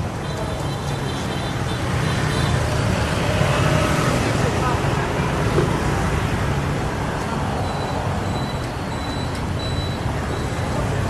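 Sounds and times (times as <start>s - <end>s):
street traffic engine rumble: 0.0s - 11.0s.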